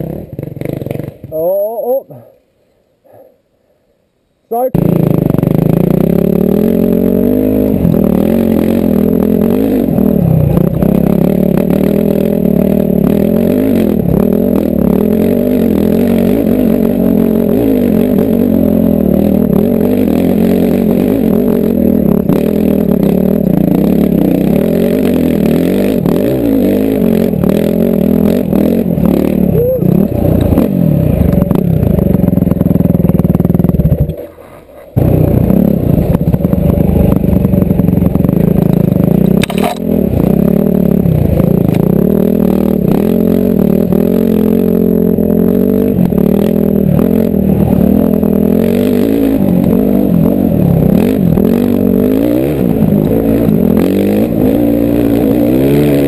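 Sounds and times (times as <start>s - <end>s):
dirt bike engine revving: 0.0s - 1.8s, 4.7s - 56.0s.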